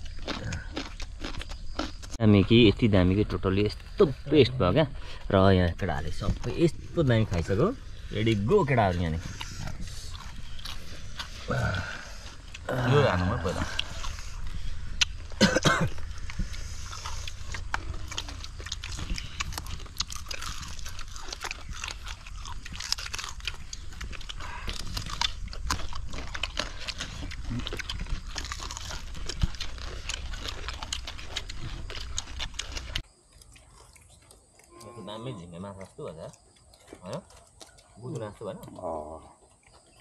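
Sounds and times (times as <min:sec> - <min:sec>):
people chewing and crunching: 0:00.0 - 0:40.0
mouth clicks: 0:07.3 - 0:40.0.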